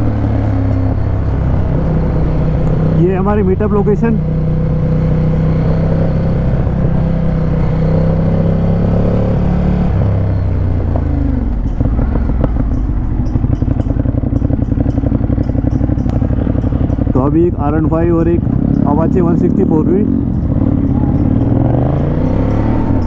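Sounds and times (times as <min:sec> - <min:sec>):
motorcycle engine running and idling: 0:00.0 - 0:07.6, 0:10.0 - 0:23.0.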